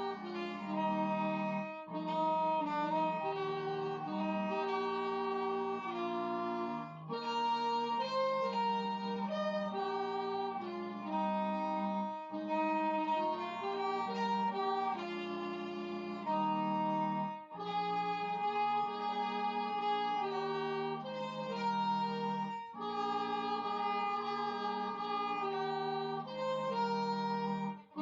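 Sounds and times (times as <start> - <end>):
alto saxophone playing: 0.0 - 28.0
violin playing slow hymn: 0.0 - 28.0.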